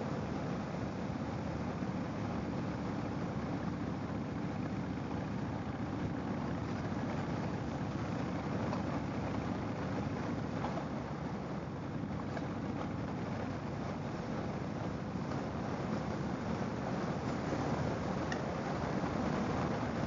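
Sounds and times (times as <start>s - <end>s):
motorcycle engine drone: 0.0s - 20.0s.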